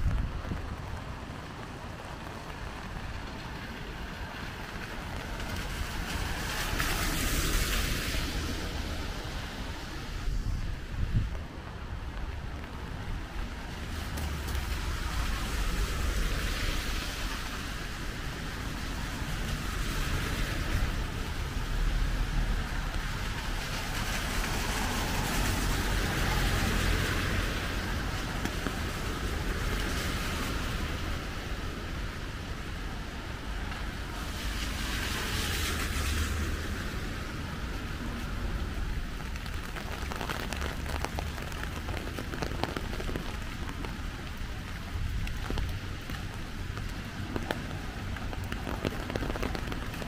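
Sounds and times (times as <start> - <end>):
cars passing on wet road: 0.0 - 50.0
rain falling: 0.0 - 50.0.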